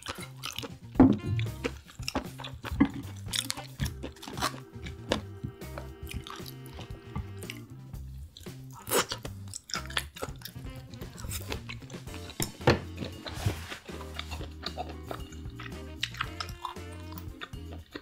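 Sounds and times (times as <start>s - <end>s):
background music with bass line: 0.0s - 18.0s
chewing and crunching seafood: 0.0s - 18.0s.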